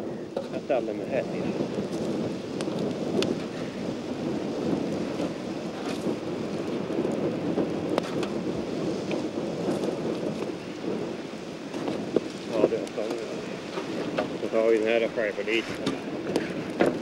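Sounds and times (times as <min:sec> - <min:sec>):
strong wind buffeting: 0:00.0 - 0:17.0.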